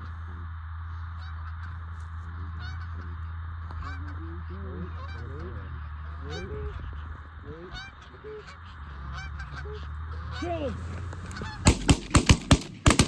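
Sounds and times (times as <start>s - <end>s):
geese honking: 0.0s - 13.0s
low rumble: 0.0s - 13.0s.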